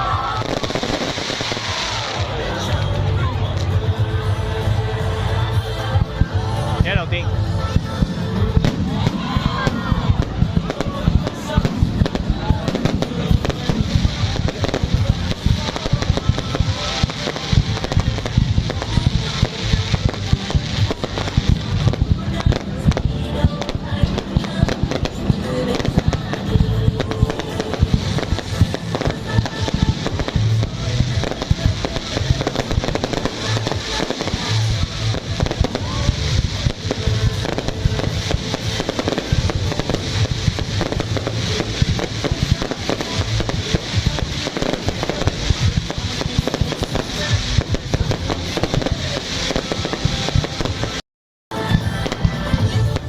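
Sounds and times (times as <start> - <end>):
fireworks crackling and banging: 0.0 - 53.0
music playing: 0.0 - 53.0.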